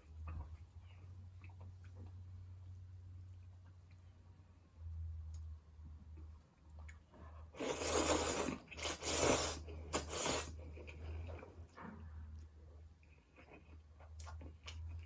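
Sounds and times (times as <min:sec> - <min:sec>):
low steady hum: 0:00.0 - 0:15.0
soft chewing: 0:00.0 - 0:15.0.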